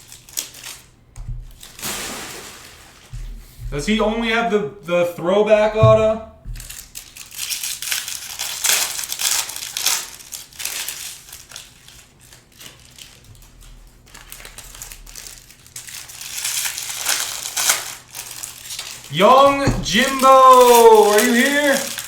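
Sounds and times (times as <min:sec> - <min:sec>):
plastic wrapping crinkling: 0:00.0 - 0:03.8, 0:06.4 - 0:22.0.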